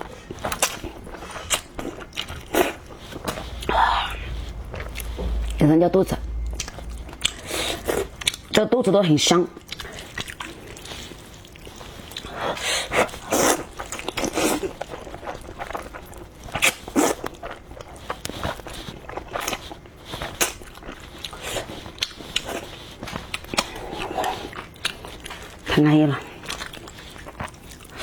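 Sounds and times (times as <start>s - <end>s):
chewing and slurping noodles: 0.0s - 5.2s, 9.6s - 28.0s.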